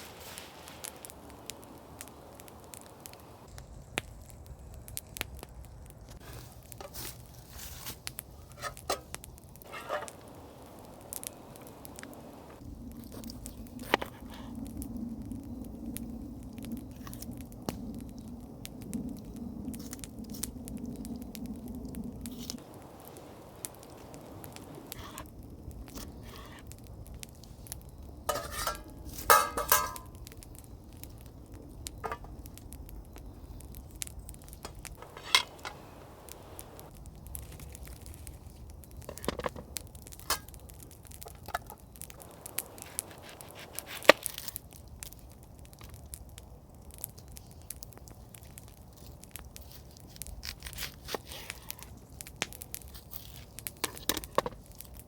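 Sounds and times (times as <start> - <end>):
campfire crackling and popping: 0.0 - 55.0
faint steady background noise: 0.0 - 55.0.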